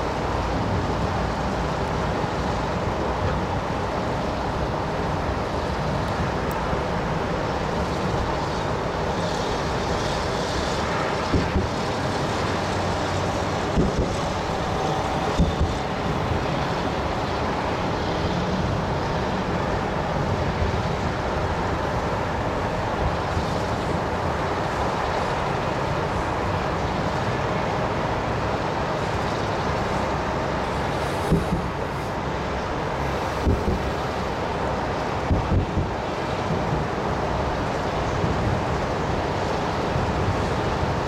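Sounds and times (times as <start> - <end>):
city traffic: 0.0 - 41.0
wind on microphone: 7.4 - 27.7, 28.3 - 41.0.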